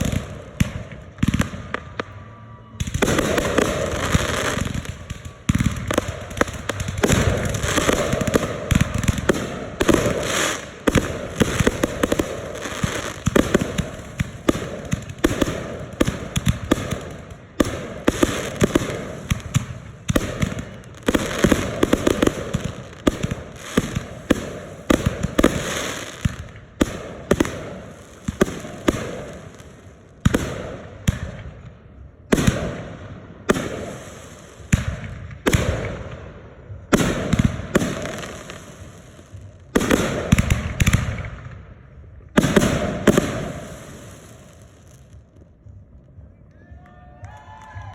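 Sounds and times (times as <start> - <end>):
fireworks bursts and crackle: 0.0 - 47.9.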